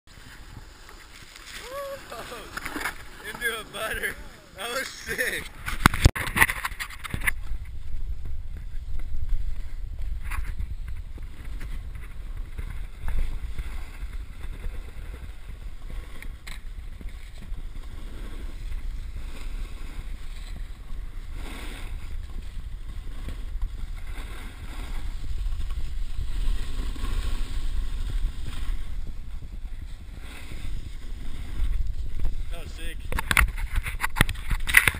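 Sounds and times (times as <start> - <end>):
snowboard scraping on snow: 0.1 - 34.9
wind buffeting microphone: 5.5 - 34.9.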